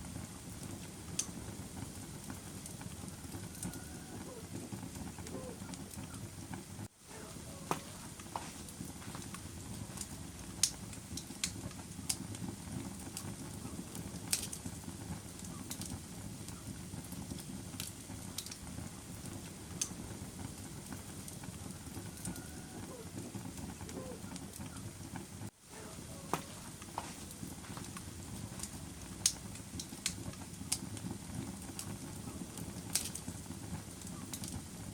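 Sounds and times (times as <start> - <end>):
fire crackling in a fireplace: 0.0 - 34.9.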